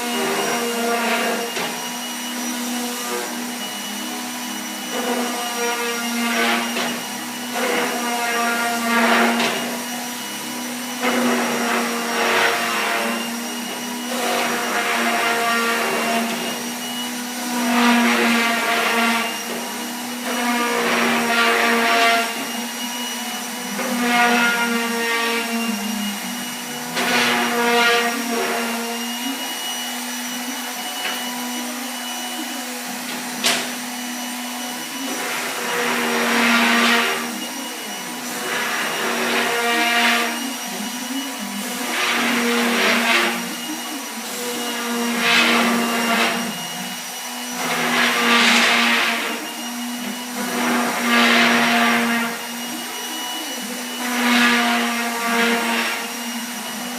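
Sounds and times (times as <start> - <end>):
electric sander on wood: 0.0 - 56.9.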